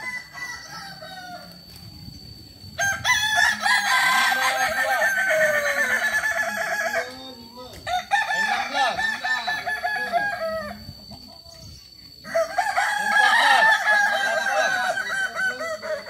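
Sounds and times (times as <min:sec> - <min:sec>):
roosters crowing: 0:00.0 - 0:16.0.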